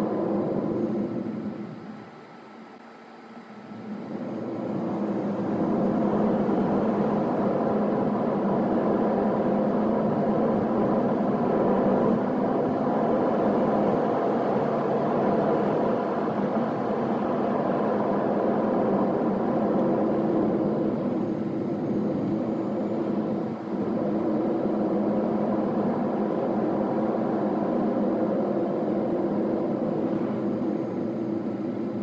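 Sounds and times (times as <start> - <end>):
car engine and tyre noise: 3.3 - 32.0.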